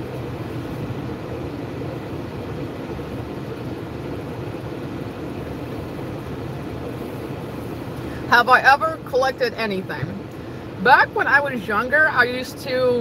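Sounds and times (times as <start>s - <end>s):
car cabin rumble and hum: 0.0s - 13.0s.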